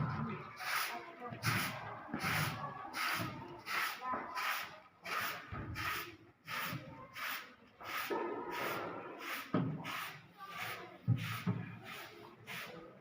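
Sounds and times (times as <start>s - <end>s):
broom sweeping: 0.6s - 13.0s.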